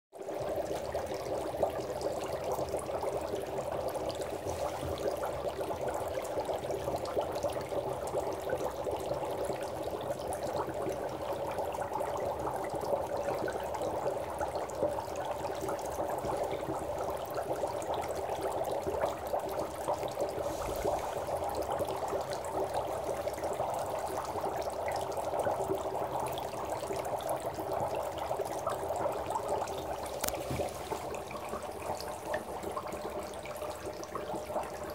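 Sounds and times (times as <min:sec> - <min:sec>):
dry ice bubbling in water: 0:00.2 - 0:34.9.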